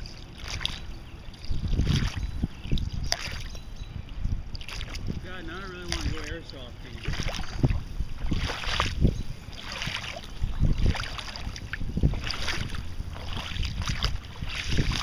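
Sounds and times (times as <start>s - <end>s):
footsteps through wet ground: 0.0s - 3.5s, 4.6s - 15.0s
wind buffeting microphone: 0.0s - 15.0s.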